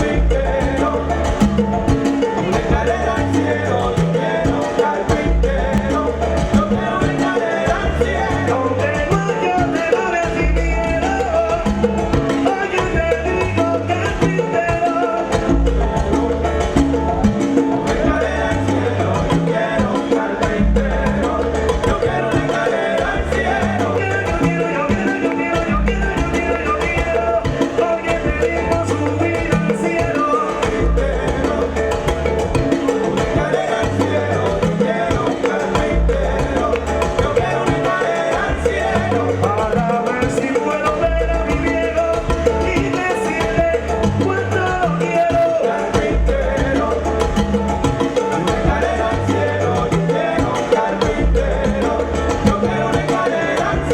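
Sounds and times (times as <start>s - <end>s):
salsa band playing: 0.0s - 53.9s.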